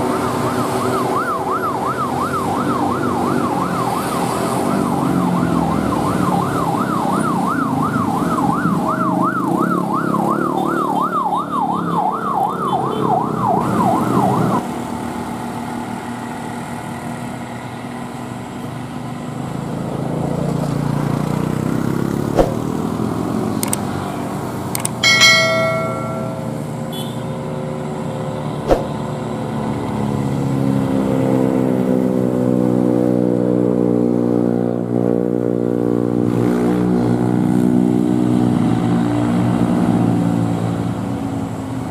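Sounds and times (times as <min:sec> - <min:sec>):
heavy diesel truck engines: 0:00.0 - 0:41.9
road traffic: 0:00.0 - 0:41.9.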